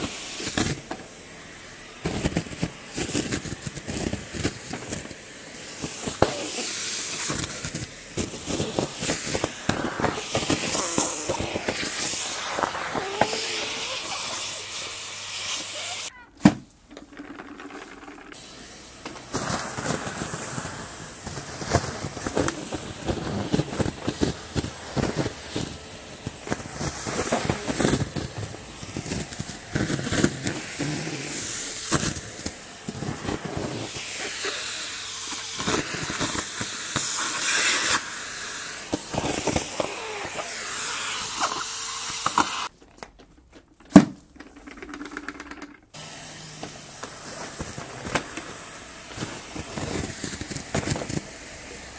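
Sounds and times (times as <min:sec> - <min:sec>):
vacuum cleaner running: 0:00.0 - 0:16.2, 0:16.9 - 0:42.7, 0:44.5 - 0:51.9
dry leaves rattling in hose: 0:01.6 - 0:16.2, 0:17.3 - 0:42.7, 0:46.0 - 0:51.9.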